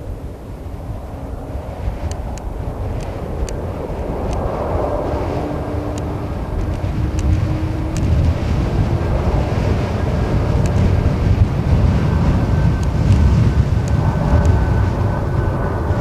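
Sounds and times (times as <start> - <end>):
jet engines rumbling: 0.0 - 16.0
wind on microphone: 0.0 - 16.0.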